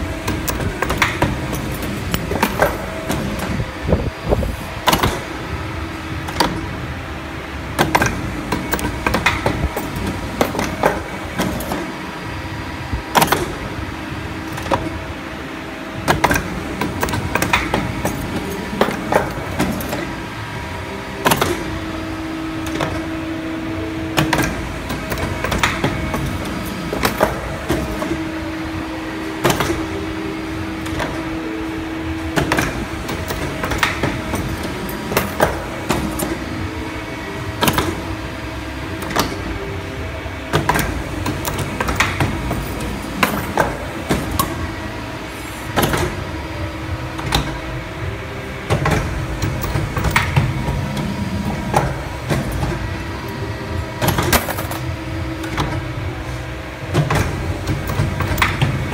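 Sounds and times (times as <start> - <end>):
steady machine hum: 0.0 - 58.9.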